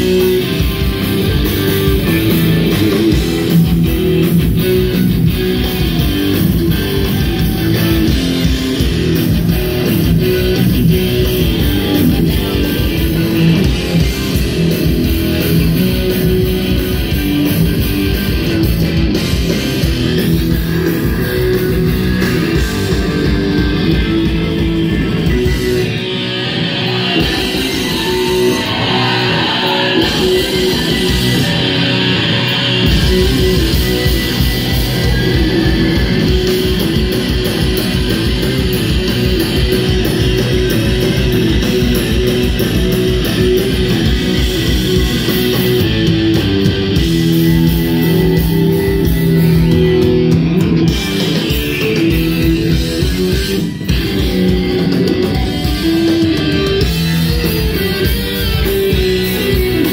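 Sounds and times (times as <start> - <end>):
bass guitar: 0.0 - 59.9
drums: 0.0 - 59.9
electric guitars: 0.0 - 59.9.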